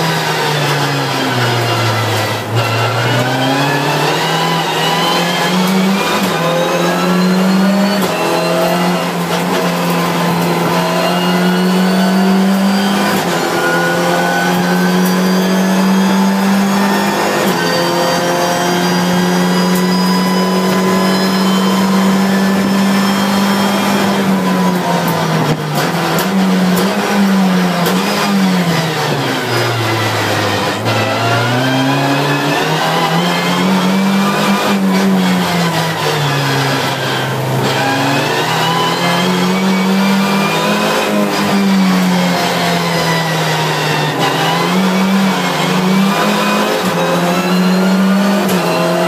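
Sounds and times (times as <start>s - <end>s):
race car engine accelerating: 0.0s - 49.0s.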